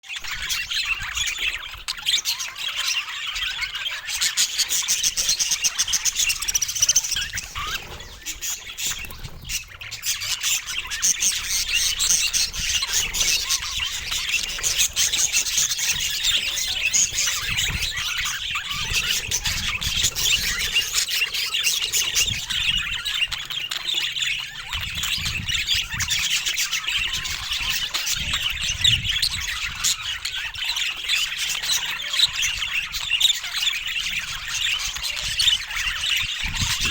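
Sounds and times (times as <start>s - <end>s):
budgerigars chattering: 0.1s - 36.9s.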